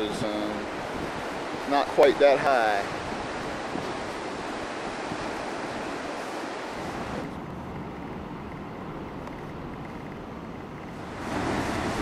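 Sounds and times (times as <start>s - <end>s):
ocean surf breaking: 0.0s - 10.1s, 10.8s - 12.0s.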